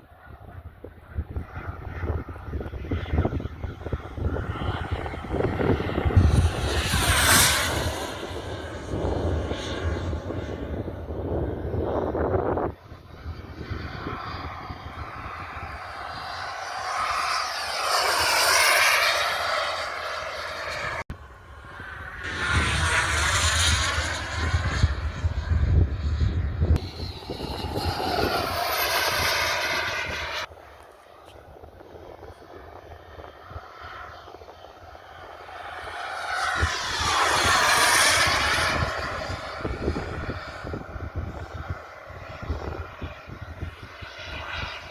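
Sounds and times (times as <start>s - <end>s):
propeller airplane flying past: 0.0s - 44.9s
wind rumbling on microphone: 0.0s - 44.9s.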